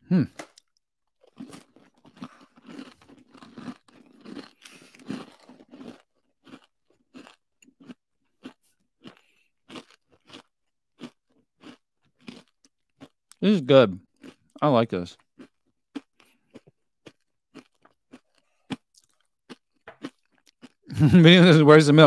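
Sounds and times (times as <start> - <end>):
chewing crunchy granola bar: 1.0 - 21.0.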